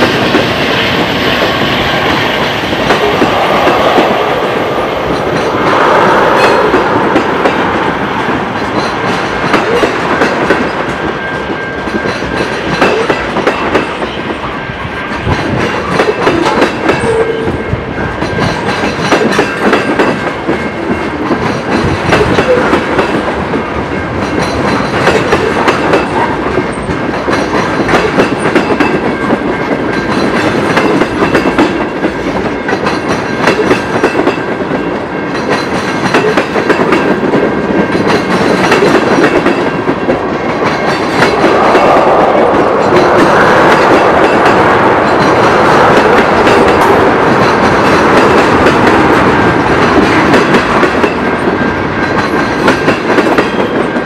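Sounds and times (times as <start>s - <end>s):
train wheels clattering over rails: 0.0s - 54.0s.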